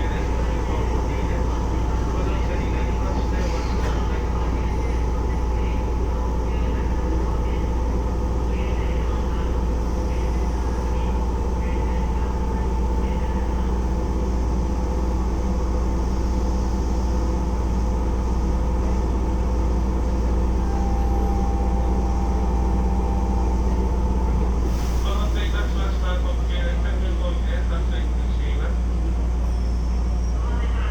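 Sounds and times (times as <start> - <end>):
train running gear rumble: 0.0 - 30.9.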